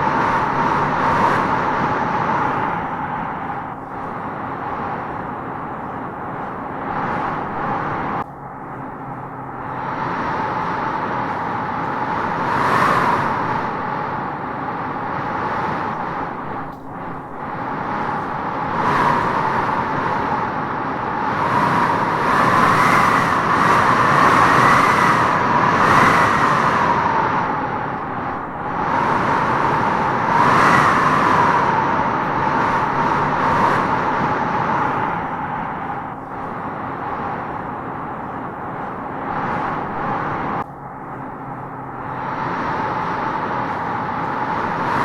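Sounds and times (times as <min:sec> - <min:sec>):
wind howling through trees: 0:00.0 - 0:45.0.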